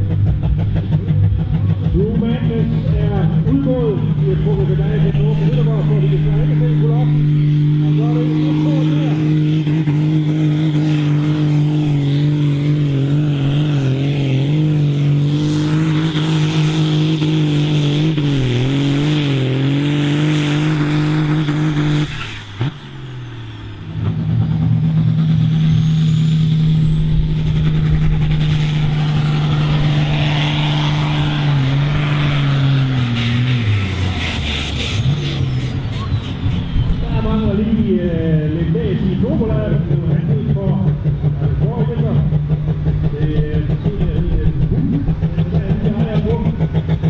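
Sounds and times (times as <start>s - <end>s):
tractor engines at high revs: 0.0s - 47.0s.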